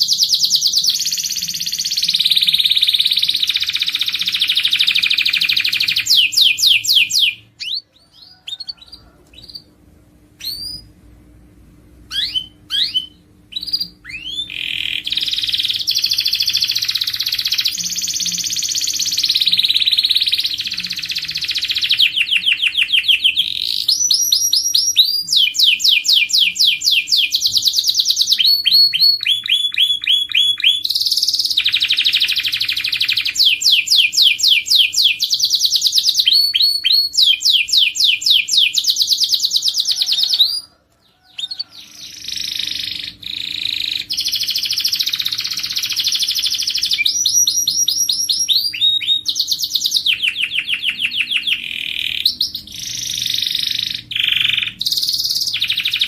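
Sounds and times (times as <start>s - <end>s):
canary singing trills: 0.0s - 9.8s, 10.4s - 11.0s, 12.1s - 56.0s.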